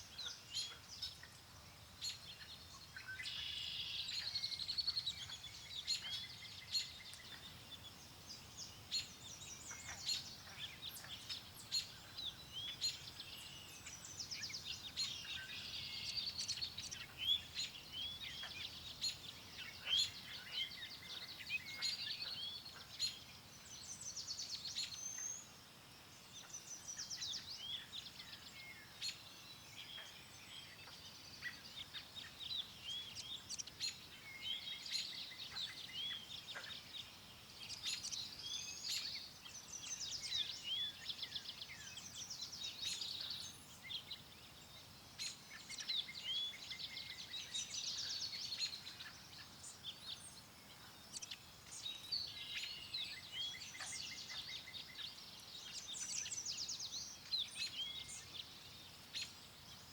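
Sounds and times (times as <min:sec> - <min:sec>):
faint wind: 0:00.0 - 0:59.9
songbirds chirping and trilling: 0:00.0 - 0:59.9.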